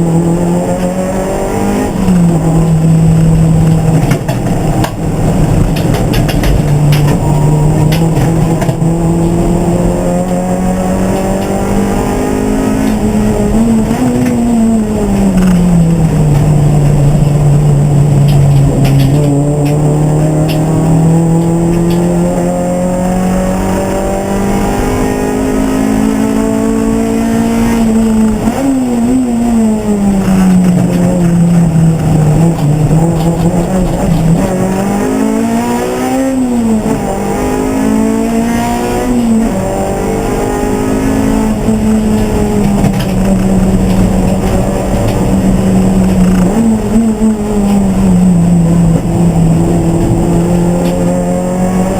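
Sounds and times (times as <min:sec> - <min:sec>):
race car engine under load: 0:00.0 - 0:51.9.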